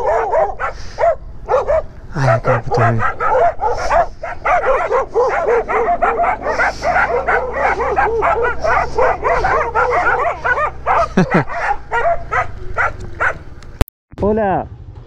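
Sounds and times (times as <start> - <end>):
dogs barking and yipping: 0.0 - 13.6.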